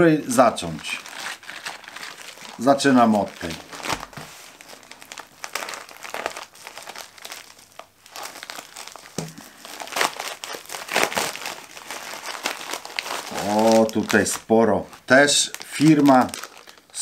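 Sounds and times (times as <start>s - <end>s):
plastic mailer crinkling: 0.3s - 17.0s.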